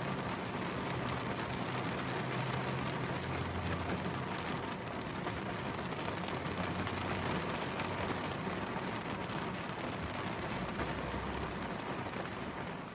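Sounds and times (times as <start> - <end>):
heavy rain on car roof: 0.0 - 12.9.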